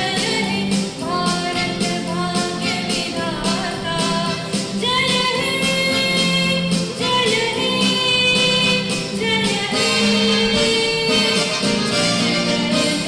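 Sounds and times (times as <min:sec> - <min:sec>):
instrumental accompaniment: 0:00.0 - 0:13.0
person singing: 0:00.0 - 0:13.0.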